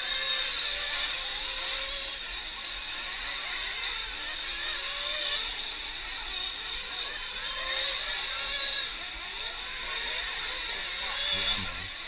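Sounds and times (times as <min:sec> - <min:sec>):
small nitro engines buzzing: 0:00.0 - 0:12.0.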